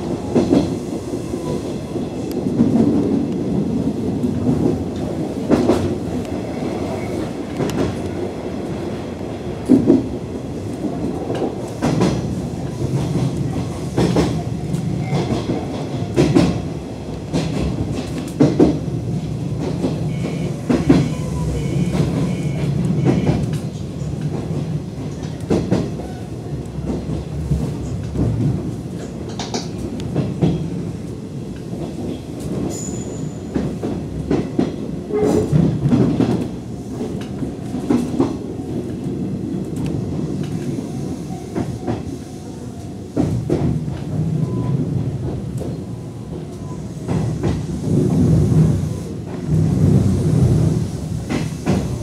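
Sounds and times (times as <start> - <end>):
electric train rumbling: 0.0 - 52.0.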